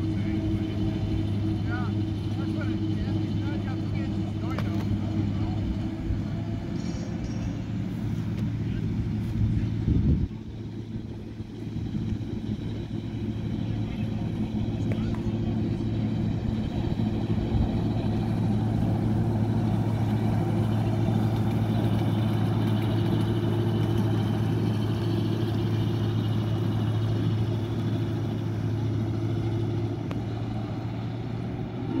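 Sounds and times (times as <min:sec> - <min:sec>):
miniature locomotive engine hum: 0:00.0 - 0:32.0.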